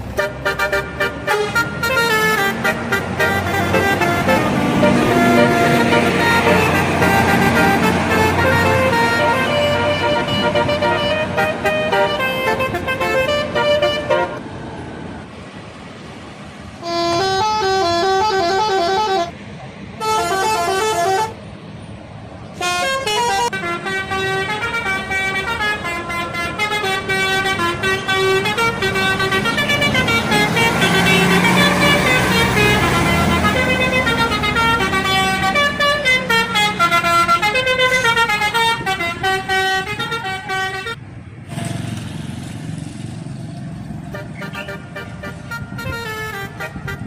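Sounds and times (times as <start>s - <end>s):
bus horn playing melody: 0.0s - 14.4s, 16.8s - 19.4s, 20.0s - 21.4s, 22.6s - 41.8s, 44.1s - 47.0s
engine noise: 0.0s - 47.0s.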